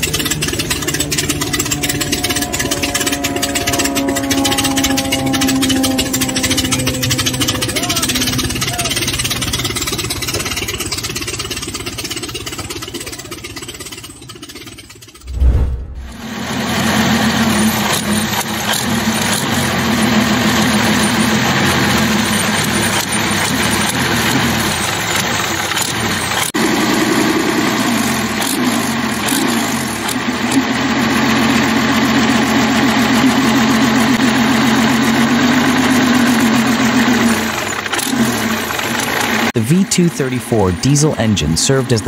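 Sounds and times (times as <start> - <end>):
diesel engine droning: 0.0 - 14.3, 15.2 - 42.0.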